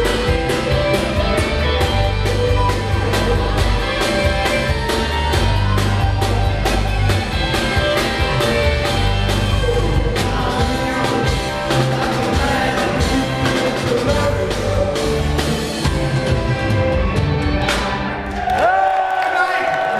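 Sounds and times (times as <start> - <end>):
drum kit beat: 0.0 - 18.5
rock band playing live: 0.0 - 18.8.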